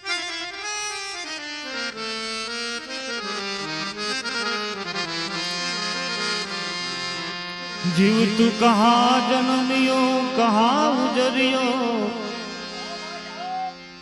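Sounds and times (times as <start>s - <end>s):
harmonium playing: 0.0s - 14.0s.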